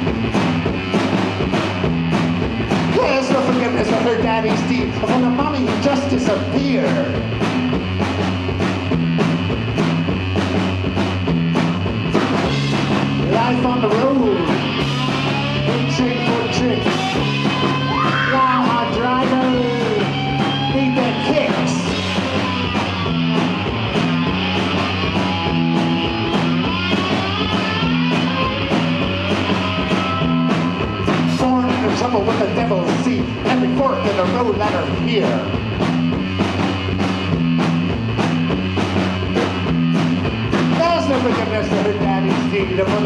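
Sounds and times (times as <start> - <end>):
bass guitar: 0.0 - 43.0
drum kit beat: 0.0 - 43.0
electric guitar: 0.0 - 43.0.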